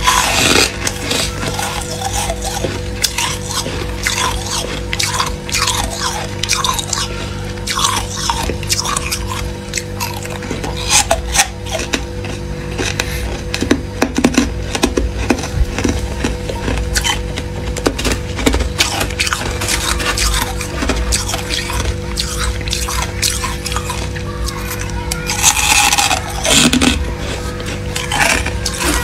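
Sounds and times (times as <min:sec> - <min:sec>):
frost crunching: 0:00.0 - 0:29.0.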